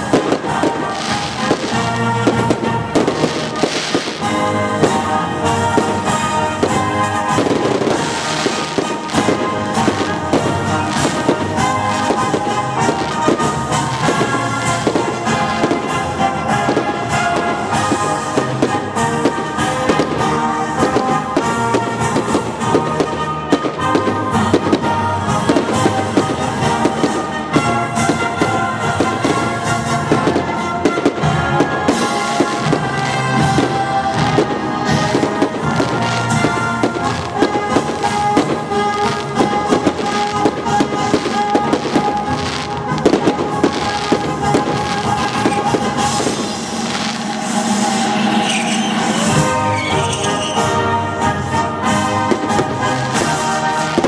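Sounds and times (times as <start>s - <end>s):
fireworks bangs and crackles: 0.0s - 54.0s
music: 0.0s - 54.0s.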